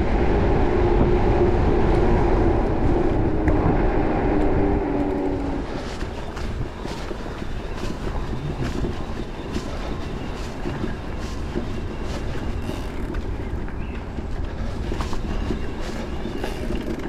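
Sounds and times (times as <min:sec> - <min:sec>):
bike tyres rumbling on grass: 0:00.0 - 0:17.0
wind on microphone: 0:00.0 - 0:17.0
bike clicking and rattling: 0:01.9 - 0:17.0.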